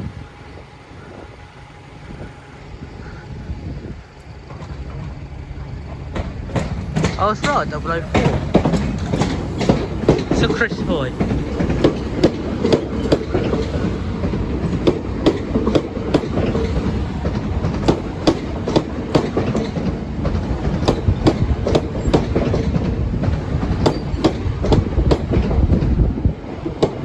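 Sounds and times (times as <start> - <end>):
train rumble: 0.0 - 27.0
train wheels clicking over rail joints: 4.0 - 27.0.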